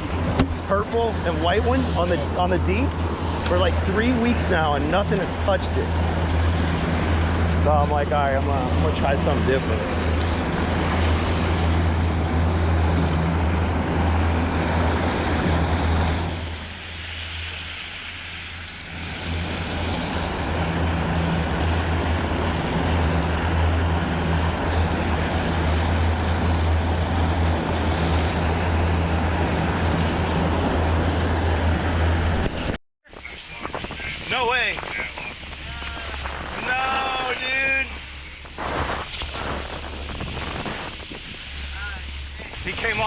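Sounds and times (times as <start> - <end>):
boat engine humming: 0.0 - 43.0
wind and water rushing: 0.0 - 43.0.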